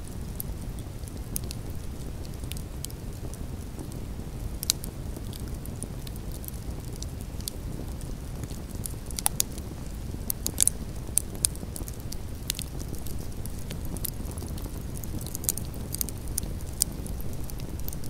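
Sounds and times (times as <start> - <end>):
low steady fire rumble: 0.0 - 18.0
campfire crackles and pops: 0.1 - 18.0.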